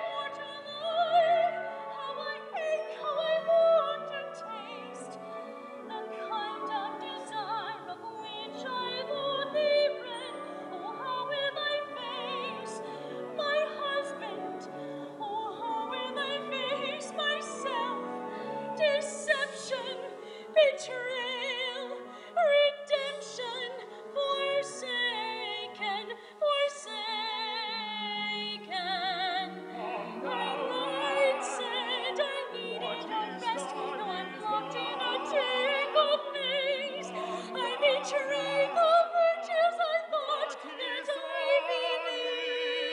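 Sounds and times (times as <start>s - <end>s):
woman singing opera: 0.0s - 42.9s.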